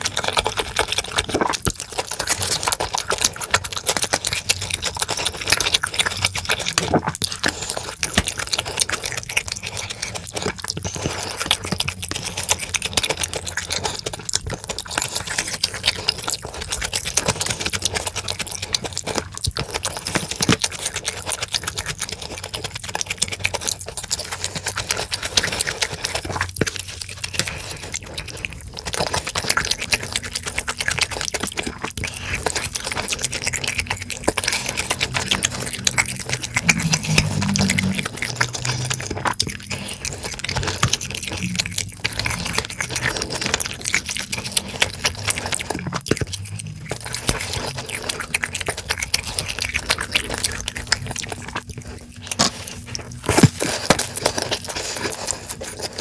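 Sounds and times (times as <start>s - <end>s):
wet chewing and smacking: 0.0s - 56.0s.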